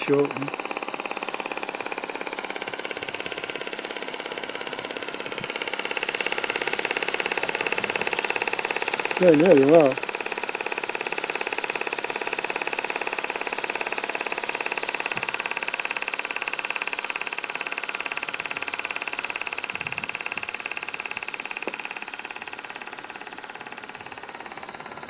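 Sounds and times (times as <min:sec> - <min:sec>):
model steam engine running: 0:00.0 - 0:25.0.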